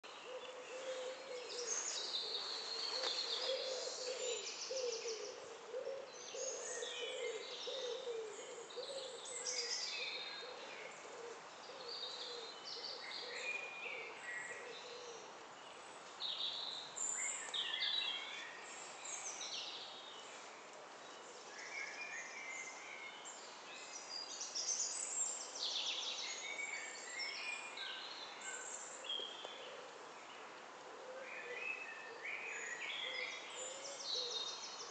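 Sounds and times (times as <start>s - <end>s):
soft outdoor hiss: 0.0s - 34.9s.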